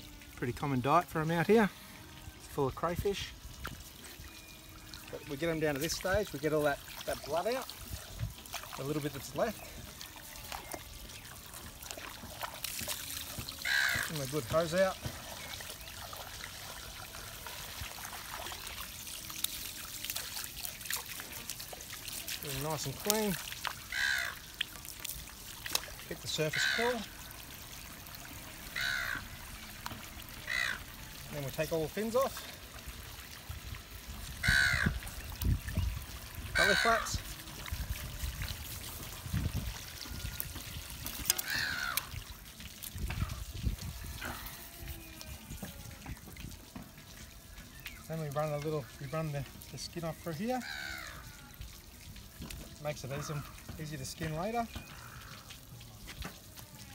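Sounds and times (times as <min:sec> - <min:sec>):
hose water splattering: 0:00.0 - 0:56.9
small splashing ticks: 0:01.5 - 0:56.9.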